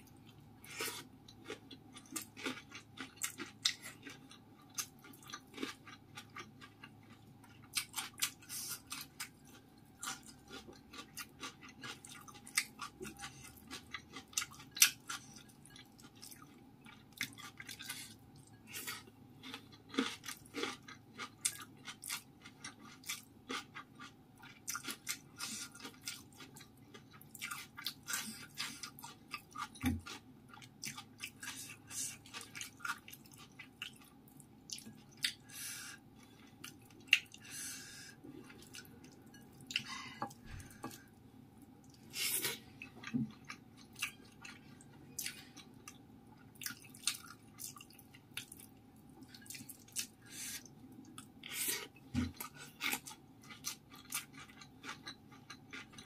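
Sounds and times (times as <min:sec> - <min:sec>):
close chewing of food: 0:00.0 - 0:56.0.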